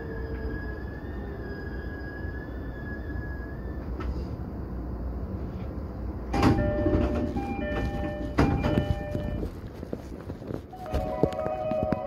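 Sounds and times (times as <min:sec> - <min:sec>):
low train rumble: 0:00.0 - 0:12.0.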